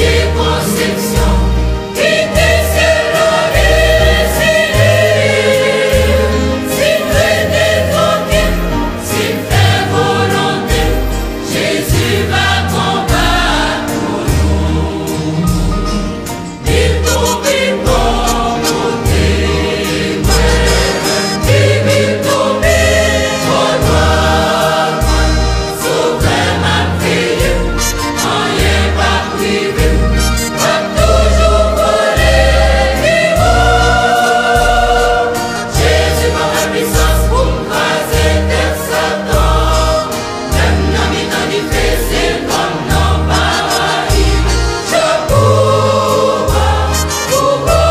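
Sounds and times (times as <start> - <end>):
gospel choir singing a hymn: 0.0 - 47.9.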